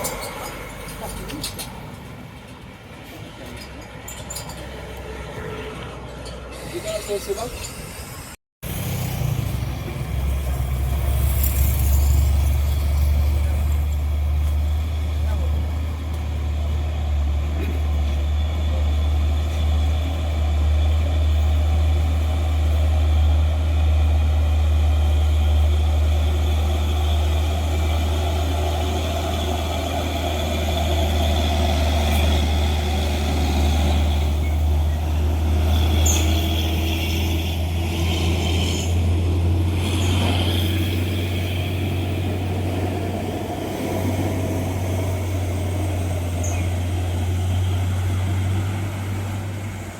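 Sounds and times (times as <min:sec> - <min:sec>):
truck diesel engine labouring: 0:00.0 - 0:49.9.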